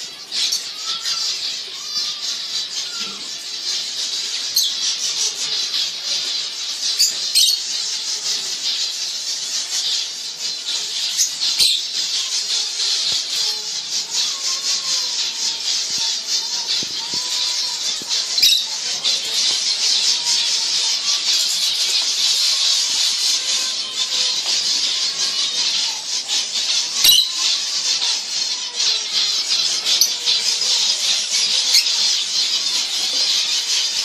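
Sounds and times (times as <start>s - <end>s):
finches chirping and twittering: 0.0s - 34.0s.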